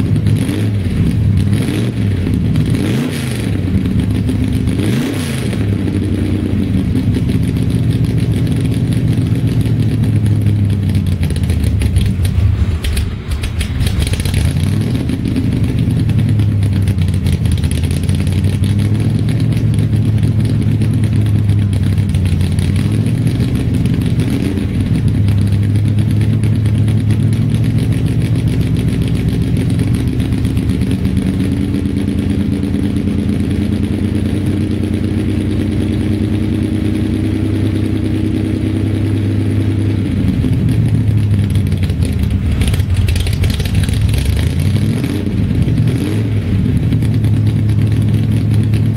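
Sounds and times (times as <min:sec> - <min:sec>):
drag car engine idling: 0:00.0 - 0:48.9.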